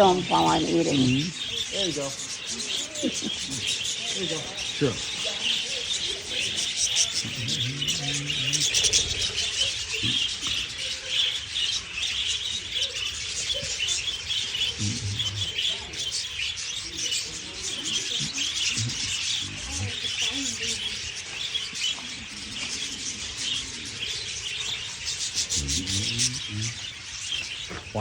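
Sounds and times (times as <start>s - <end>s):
budgerigars chattering and chirping: 0.0s - 28.0s.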